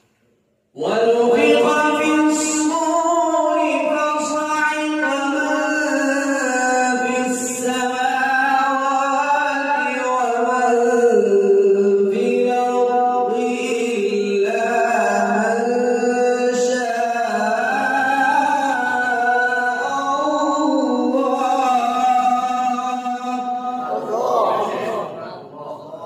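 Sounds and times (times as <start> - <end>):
man reciting melodically: 0.7 - 26.0.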